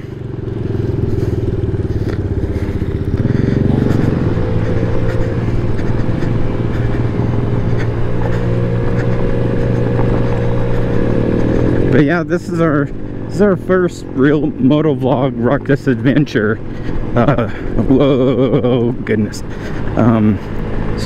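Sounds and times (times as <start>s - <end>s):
scooter engine running: 0.0s - 21.0s
tires on gravel: 0.0s - 21.0s.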